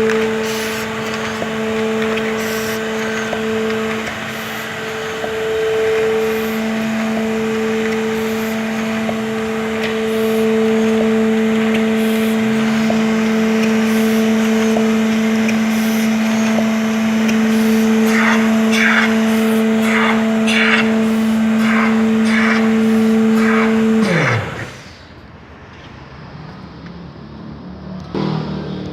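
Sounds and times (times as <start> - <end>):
machine ticking: 0.0 - 24.7
machine motor hum: 0.0 - 25.2.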